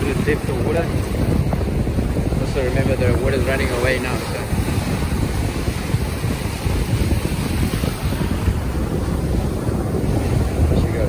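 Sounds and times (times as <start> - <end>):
surf breaking on beach: 0.0 - 11.0
wind on microphone: 0.0 - 11.0.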